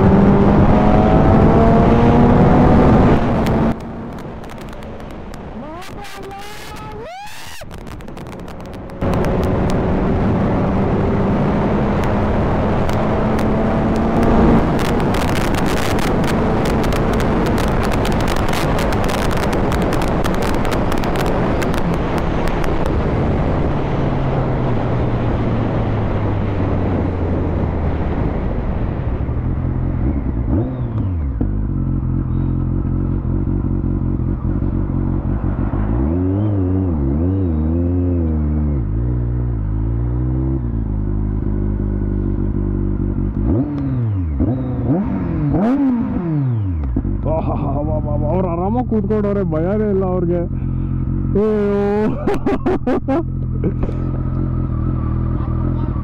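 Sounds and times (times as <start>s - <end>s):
rush of wind: 0.0s - 49.9s
motorcycle engine: 0.0s - 56.0s.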